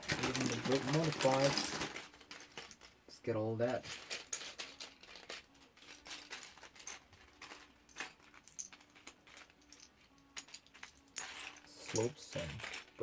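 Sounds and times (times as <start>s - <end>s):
plastic bricks clattering: 0.0s - 2.9s, 3.7s - 13.0s.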